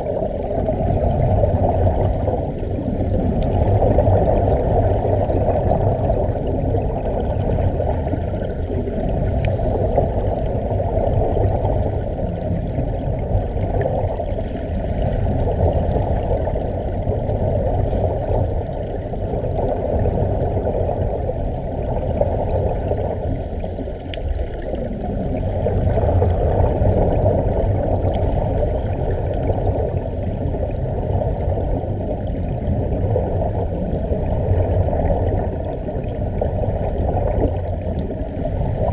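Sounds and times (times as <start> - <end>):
muffled underwater bubbling: 0.0 - 38.9.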